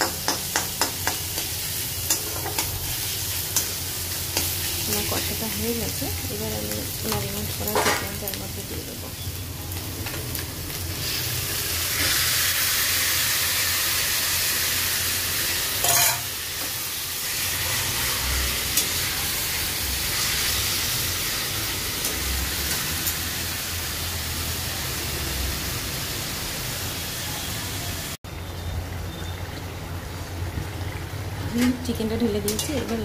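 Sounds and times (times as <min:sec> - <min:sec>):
chicken sizzling in hot oil: 0:00.0 - 0:33.0.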